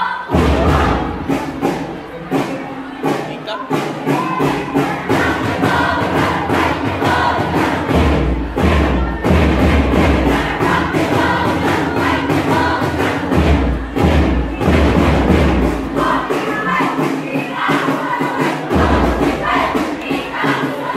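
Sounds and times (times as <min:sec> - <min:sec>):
squad chanting and singing: 0:00.0 - 0:20.9
backing track with thumping beat: 0:00.1 - 0:20.9.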